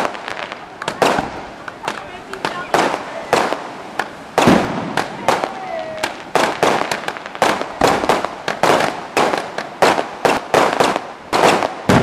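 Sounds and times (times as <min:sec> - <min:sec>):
firework shell bursts: 0:00.0 - 0:12.0.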